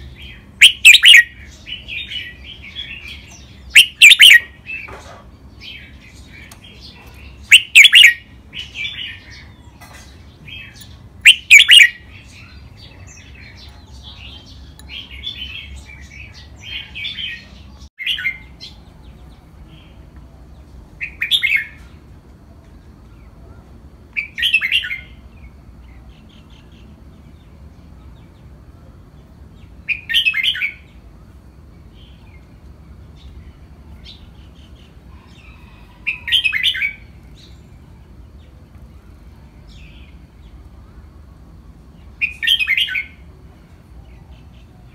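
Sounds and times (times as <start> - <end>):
bird song warbled phrases: 0.0 - 22.1, 22.7 - 44.9.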